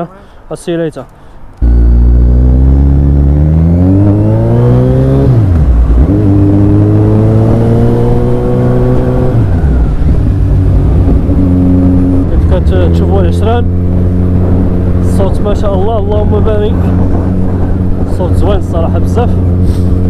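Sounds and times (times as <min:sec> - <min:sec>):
motorcycle engine revving: 0:01.6 - 0:20.0.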